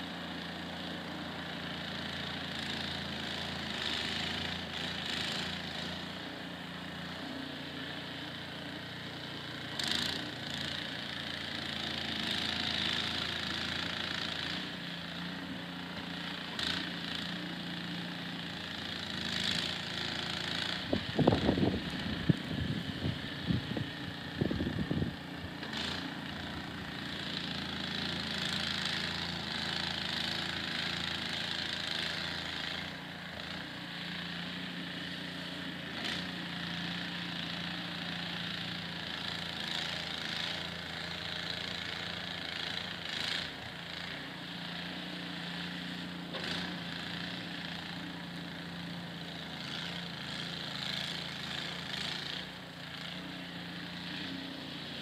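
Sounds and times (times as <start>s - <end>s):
small gas engine running: 0.0s - 55.0s.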